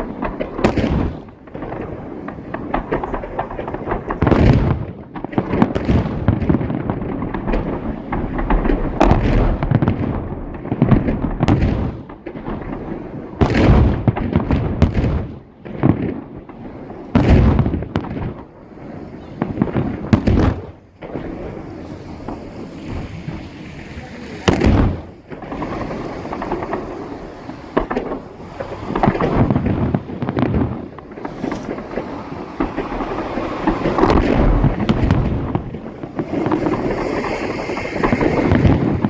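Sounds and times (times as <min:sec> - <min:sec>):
fireworks booming bangs: 0:00.0 - 0:39.0
rolling rumble: 0:00.0 - 0:39.0.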